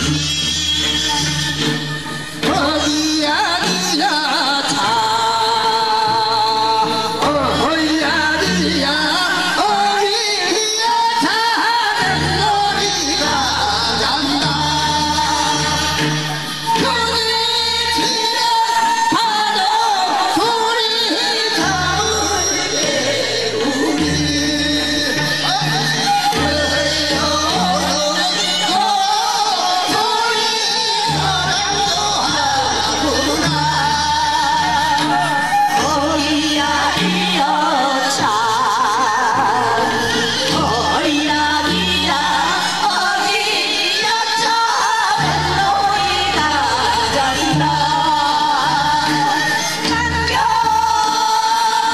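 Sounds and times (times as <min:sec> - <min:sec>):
folk song sung into microphones: 0:00.0 - 0:51.9.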